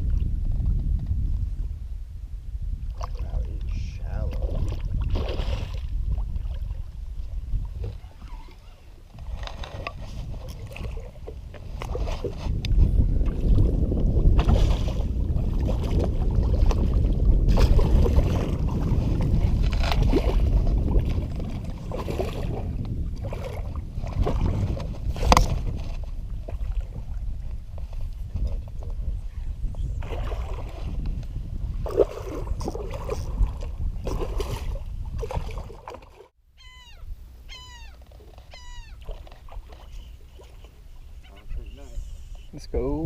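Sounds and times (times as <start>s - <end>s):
wind gusting on microphone: 0.0s - 43.0s.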